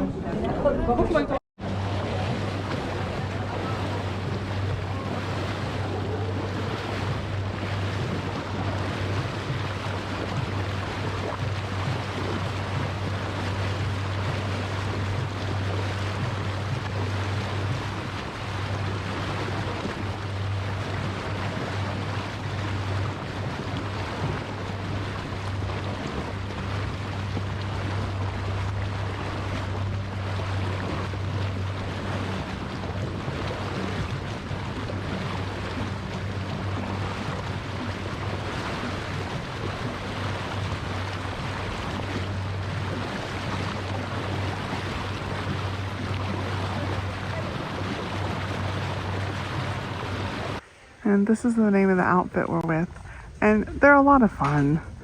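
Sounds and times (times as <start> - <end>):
boat engine humming: 0.0 - 55.0
rushing water: 0.0 - 55.0.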